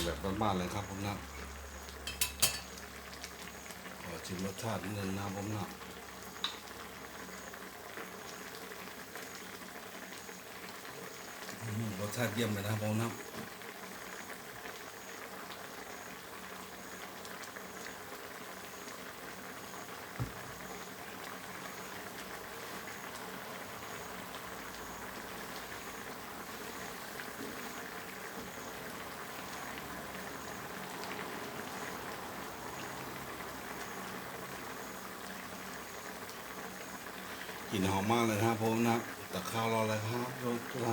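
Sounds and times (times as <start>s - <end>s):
curry bubbling at a boil: 0.0s - 40.9s.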